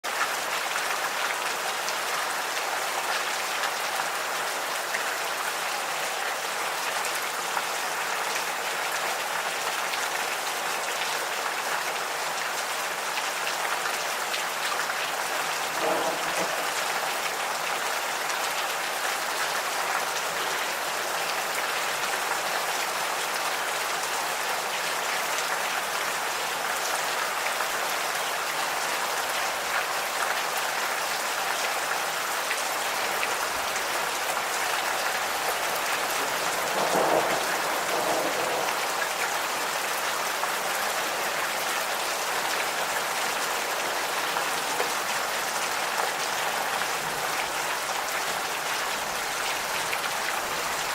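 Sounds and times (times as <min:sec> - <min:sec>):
gentle rain falling: 0:00.0 - 0:50.9.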